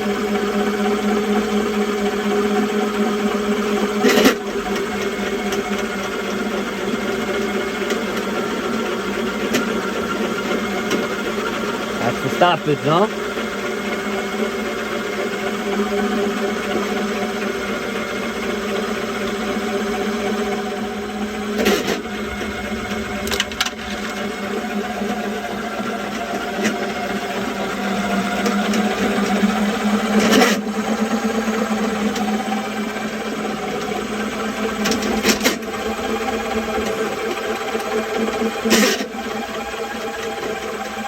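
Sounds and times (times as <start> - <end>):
drain-cleaning machine running: 0.0 - 41.0.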